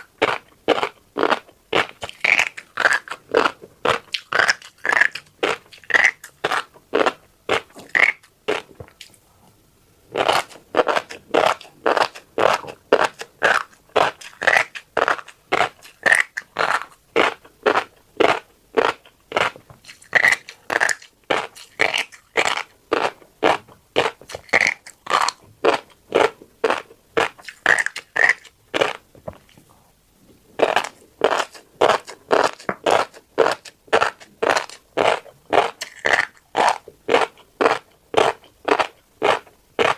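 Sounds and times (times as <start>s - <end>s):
chewing crunchy seeds: 0.0s - 9.2s, 10.1s - 29.8s, 30.6s - 39.9s.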